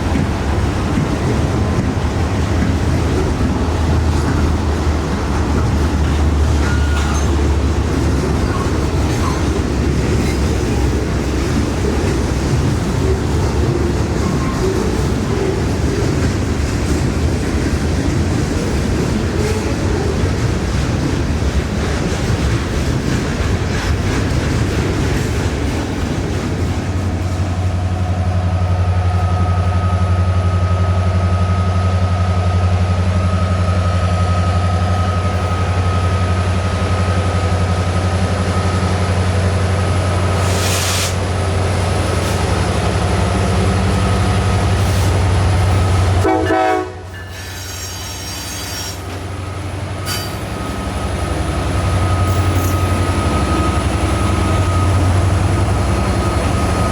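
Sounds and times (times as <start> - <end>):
locomotive engine drone: 0.0 - 56.9
train rumbling on rails: 0.0 - 56.9.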